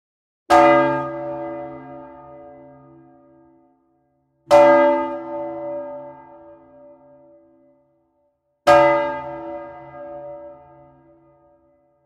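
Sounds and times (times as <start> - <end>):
church bell ringing: 0.5 - 8.0, 8.6 - 12.0.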